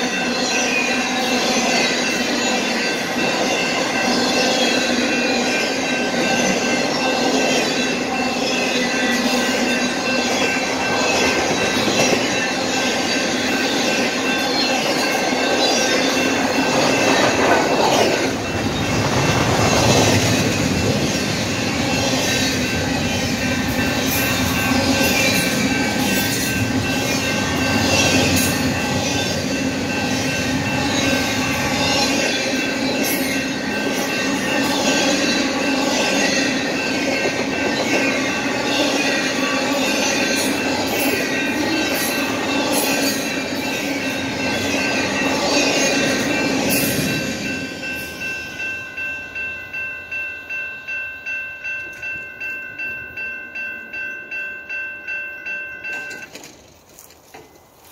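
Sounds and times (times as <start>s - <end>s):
train wheels squealing: 0.0s - 49.1s.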